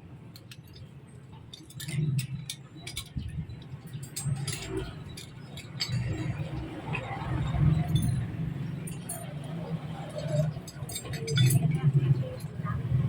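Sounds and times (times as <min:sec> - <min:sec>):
light metallic clinks: 0:00.3 - 0:12.6.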